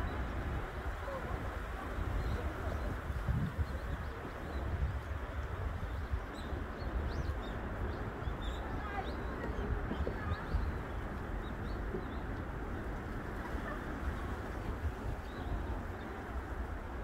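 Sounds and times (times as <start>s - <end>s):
small birds chirping: 2.1s - 16.4s.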